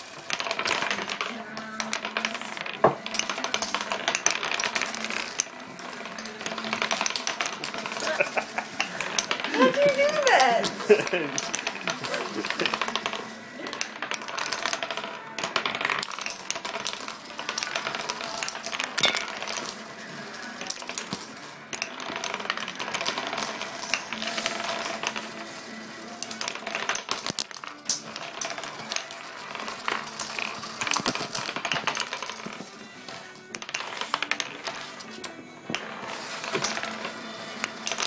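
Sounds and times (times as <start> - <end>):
wooden discs spinning and clattering: 0.0 - 38.0.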